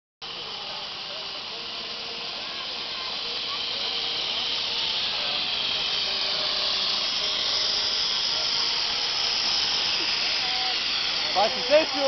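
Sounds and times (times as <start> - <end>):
steam hissing from locomotive: 0.2 - 12.0.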